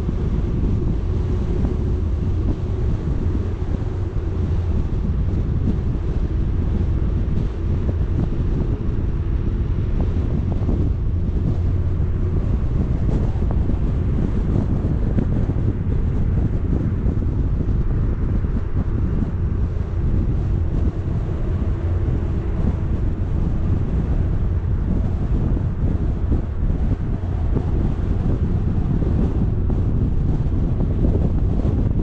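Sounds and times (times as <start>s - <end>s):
vehicle rumble: 0.0s - 32.0s
wind buffeting microphone: 0.0s - 32.0s.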